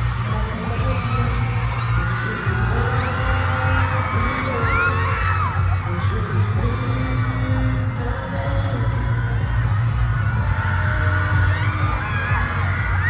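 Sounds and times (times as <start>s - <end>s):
crowd screaming and singing: 0.0s - 13.0s
live pop song with bass beat: 0.0s - 13.0s.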